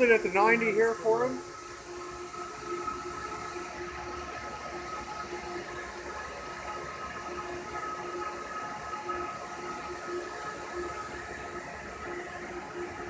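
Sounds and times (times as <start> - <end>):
constant hiss: 0.0 - 13.0.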